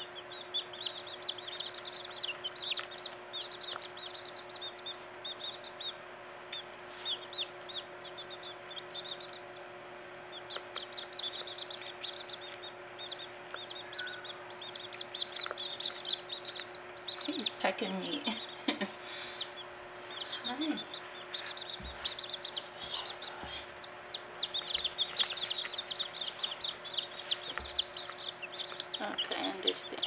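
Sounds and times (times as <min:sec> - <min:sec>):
chicks peeping: 0:00.0 - 0:30.0
faint steady hum: 0:00.0 - 0:30.0.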